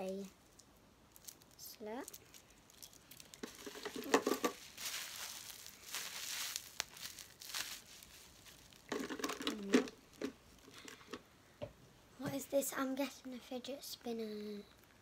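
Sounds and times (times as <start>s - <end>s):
fidget toys crinkling and rustling: 0.0s - 11.2s, 14.0s - 15.0s.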